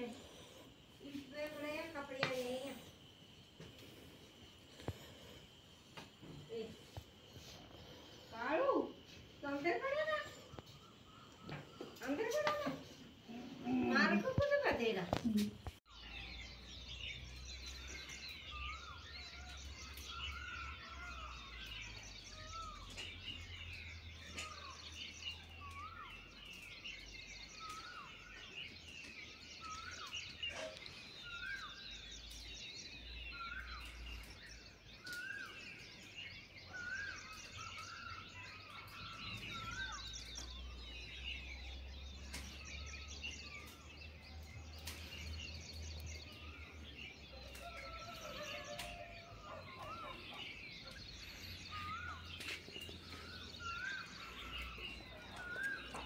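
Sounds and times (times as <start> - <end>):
birds twittering chorus: 0.0 - 56.0.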